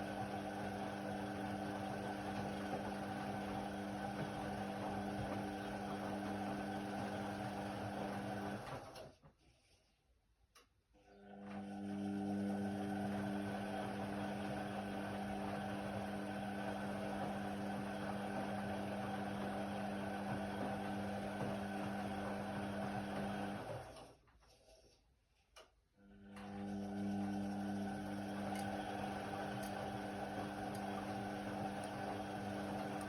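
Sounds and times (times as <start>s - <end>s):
washer-dryer drum motor humming: 0.0s - 9.1s, 11.2s - 24.1s, 26.0s - 33.0s.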